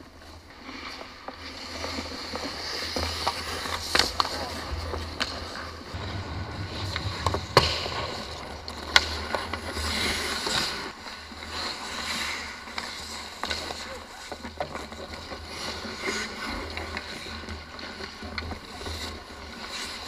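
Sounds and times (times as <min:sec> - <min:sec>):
low rink rumble: 0:00.1 - 0:20.0
skates scraping on ice: 0:00.1 - 0:20.0.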